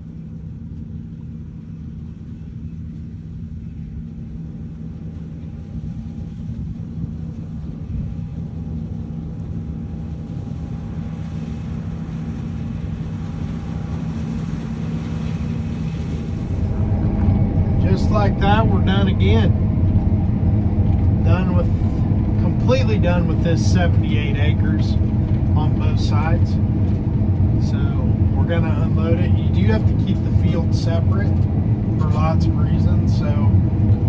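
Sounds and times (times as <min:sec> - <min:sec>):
combine harvester engine drone: 0:00.0 - 0:34.0.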